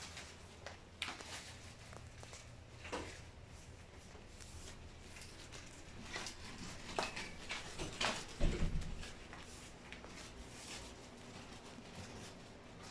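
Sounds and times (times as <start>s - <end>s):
plastic wrapping crinkling: 0.0s - 12.9s.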